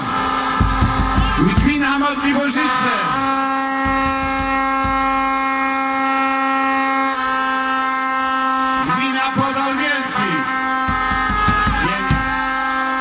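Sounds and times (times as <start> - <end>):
horn blast: 0.0 - 13.0.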